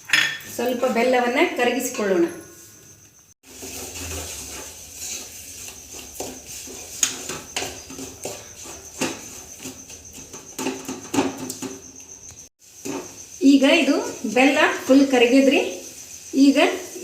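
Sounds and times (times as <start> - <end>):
spoon scraping a pan: 0.0 - 12.1, 12.7 - 17.0.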